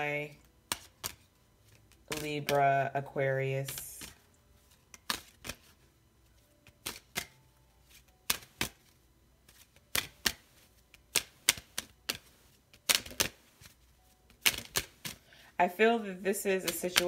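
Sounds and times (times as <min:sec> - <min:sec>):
cards being shuffled: 0:00.4 - 0:02.8, 0:03.5 - 0:15.3, 0:16.4 - 0:17.0.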